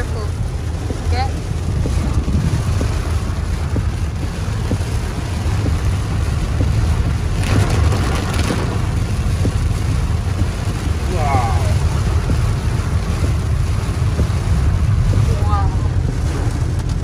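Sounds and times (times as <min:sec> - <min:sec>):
rain rushing over windshield: 0:00.0 - 0:17.0
road and engine rumble: 0:00.0 - 0:17.0.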